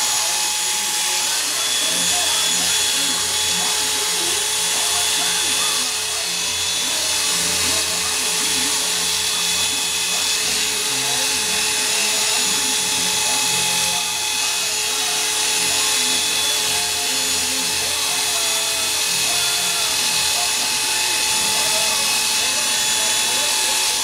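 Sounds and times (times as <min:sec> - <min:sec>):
electric hair clippers buzzing: 0:00.0 - 0:24.0.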